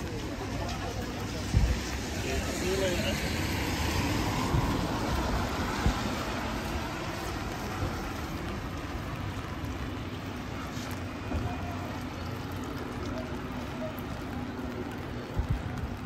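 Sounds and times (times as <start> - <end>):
rain: 0.0 - 16.0
traffic on wet street: 0.0 - 16.0.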